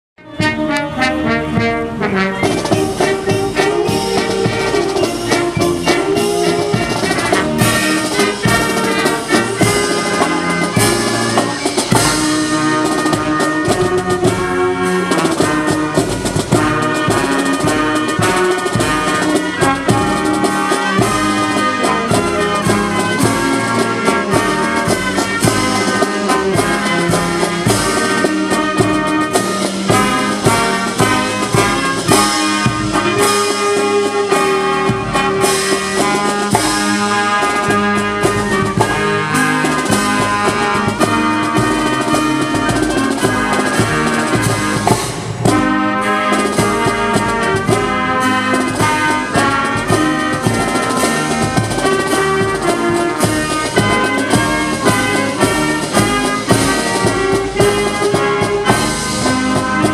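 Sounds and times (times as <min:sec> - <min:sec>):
brass music over drums: 0:00.2 - 0:59.9.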